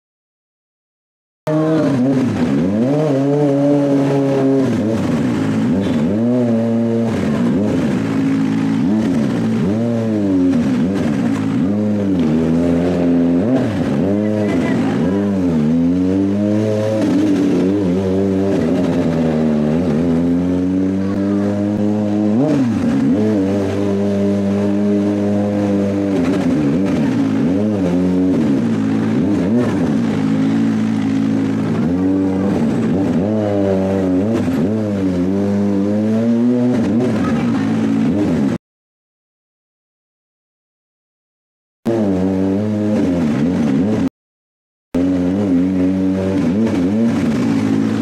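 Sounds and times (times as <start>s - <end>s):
motorcycle engine throttle blips: 1.5s - 38.6s, 45.0s - 48.0s.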